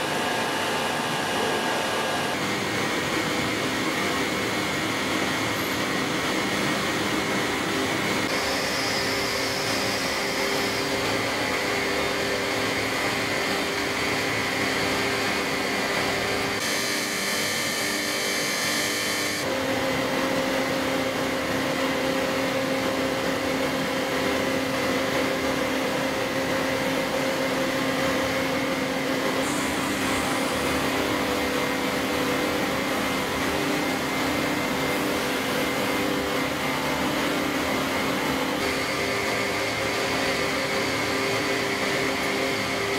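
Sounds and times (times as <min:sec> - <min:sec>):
grinding machine hum and hiss: 0:00.0 - 0:42.9.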